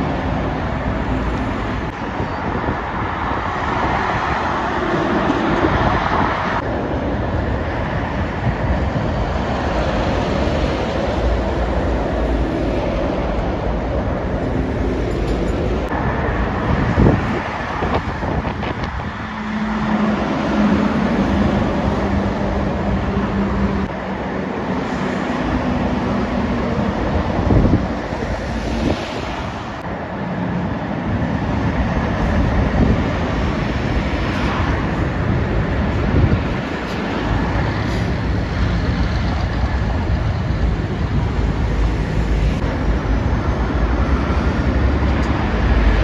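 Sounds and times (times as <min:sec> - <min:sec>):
diesel lorry engines droning: 0:00.0 - 0:46.0
tyre roar of passing traffic: 0:00.0 - 0:46.0.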